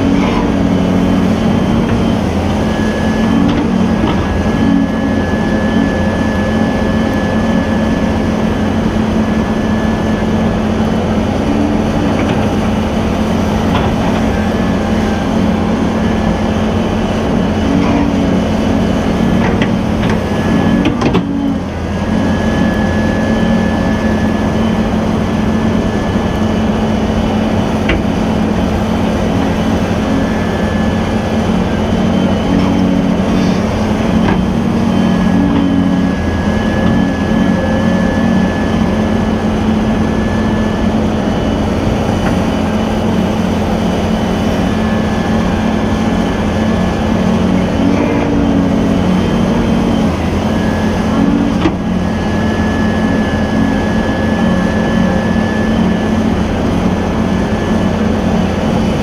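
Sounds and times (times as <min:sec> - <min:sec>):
excavator diesel engine: 0:00.0 - 0:59.0
thin high whine: 0:00.0 - 0:59.0.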